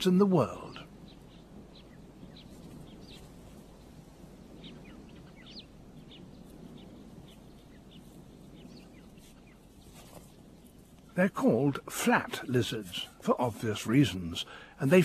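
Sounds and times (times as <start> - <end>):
birds chirping: 0.0 - 15.0
low steady hiss: 0.0 - 15.0.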